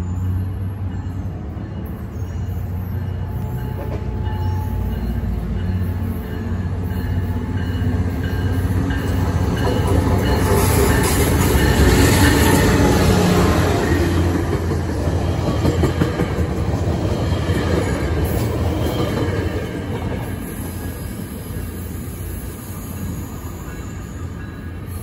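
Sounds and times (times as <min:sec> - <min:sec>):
train wheel and rail noise: 0:00.0 - 0:25.0.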